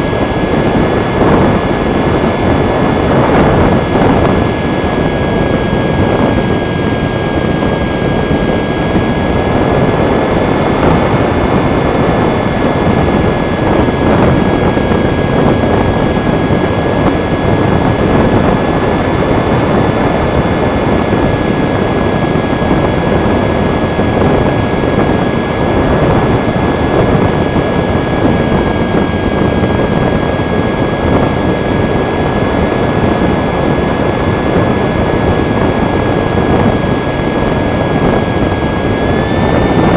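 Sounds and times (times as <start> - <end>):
electric motor and propeller whining: 0.0 - 39.9
wind noise on microphone: 0.0 - 39.9.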